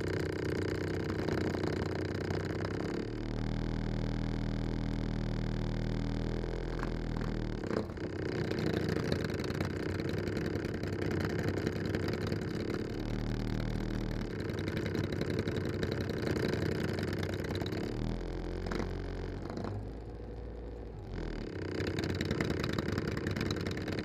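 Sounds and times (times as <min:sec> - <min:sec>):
motorcycle engines idling: 0:00.0 - 0:24.0.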